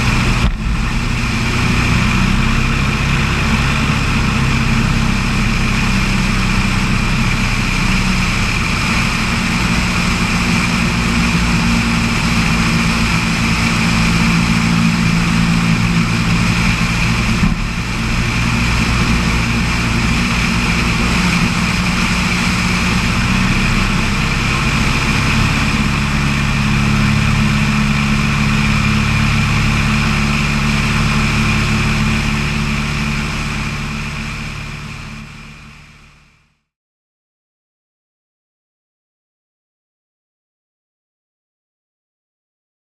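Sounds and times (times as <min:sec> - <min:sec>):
propeller plane engine running: 0:00.0 - 0:36.7.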